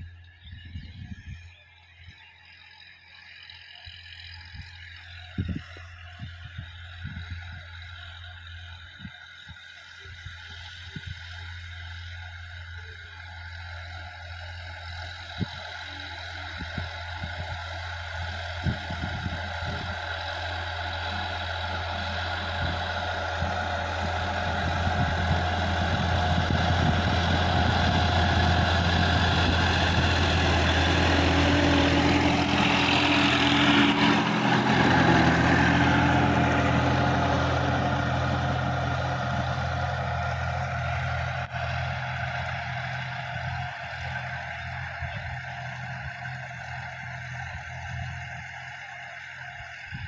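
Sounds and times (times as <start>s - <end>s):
tractor diesel engine: 0.0s - 50.0s.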